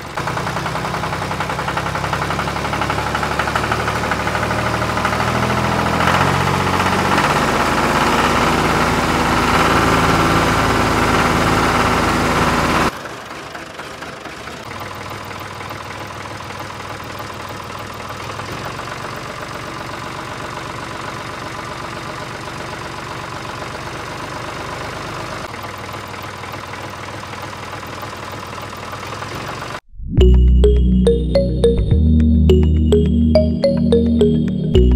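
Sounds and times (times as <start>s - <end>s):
tractor engine idling with knocking: 0.0s - 29.8s.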